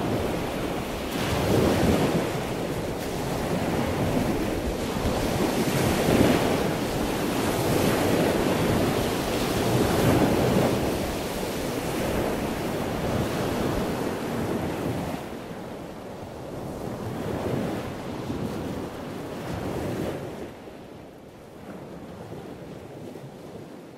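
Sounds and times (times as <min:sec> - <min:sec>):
sea waves washing in: 0:00.0 - 0:23.9.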